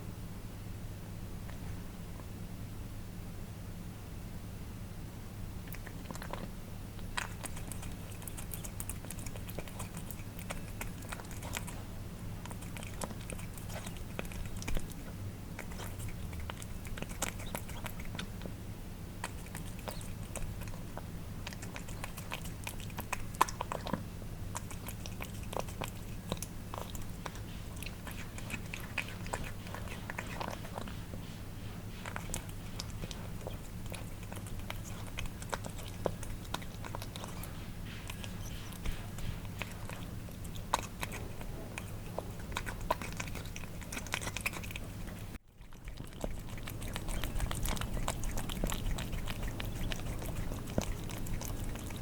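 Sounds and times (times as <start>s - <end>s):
low steady hum: 0.0s - 52.0s
cats licking and chewing: 5.6s - 52.0s.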